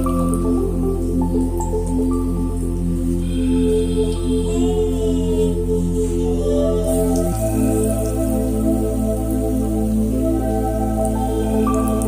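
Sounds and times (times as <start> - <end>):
low drone: 0.0 - 12.0
soft melodic notes: 0.0 - 12.0.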